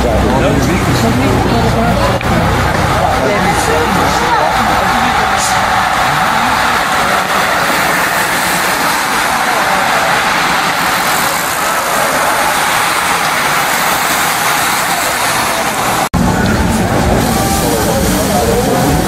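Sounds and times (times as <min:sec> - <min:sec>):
bicycles whirring past: 0:00.0 - 0:19.0.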